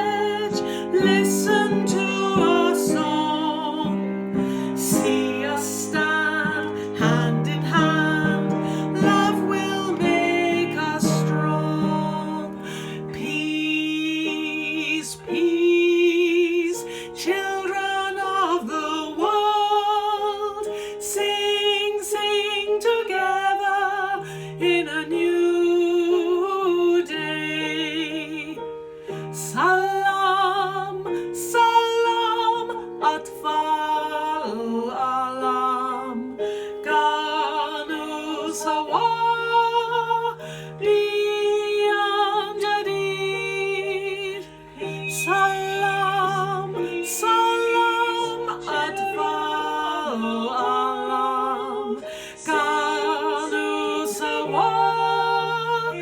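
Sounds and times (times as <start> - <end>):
woman singing: 0.0 - 56.0.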